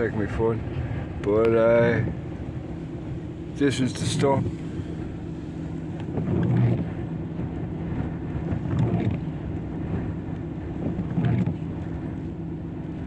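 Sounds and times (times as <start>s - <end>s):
heavy surf rumbling: 0.0s - 12.0s
wind buffeting microphone: 0.0s - 13.0s.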